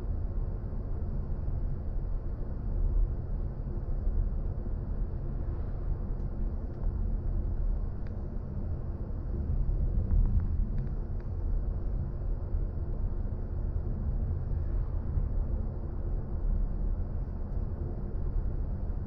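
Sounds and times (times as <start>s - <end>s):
road and tyre rumble in car: 0.0s - 19.0s.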